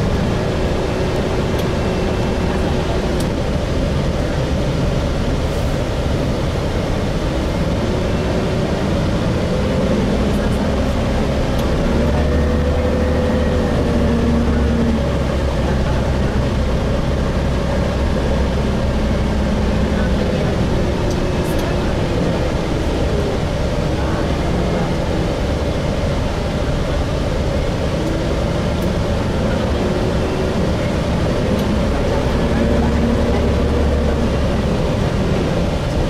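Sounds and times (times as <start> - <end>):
bus engine and road rumble: 0.0 - 36.0.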